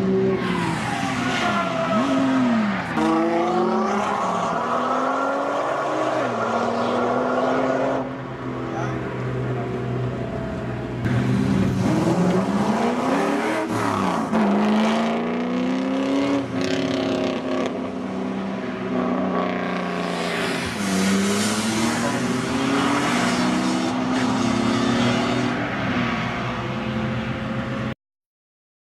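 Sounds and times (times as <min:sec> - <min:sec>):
car engines accelerating hard: 0:00.0 - 0:27.9.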